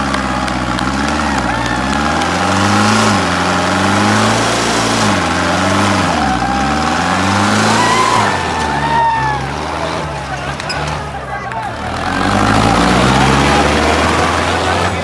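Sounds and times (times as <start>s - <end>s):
tractor diesel engine revving: 0.0s - 15.0s
tyres spinning in loose dirt: 0.0s - 15.0s.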